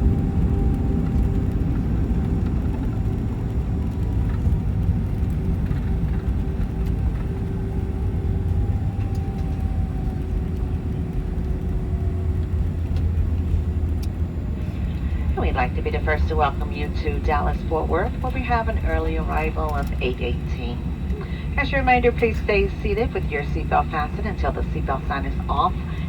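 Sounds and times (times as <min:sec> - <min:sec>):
jet engine hum: 0:00.0 - 0:26.0
low rumble of plane rolling: 0:00.0 - 0:26.0.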